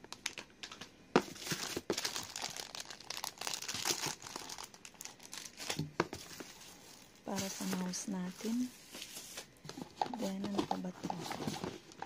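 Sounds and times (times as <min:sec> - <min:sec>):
plastic sleeve crinkling: 0:00.0 - 0:12.0.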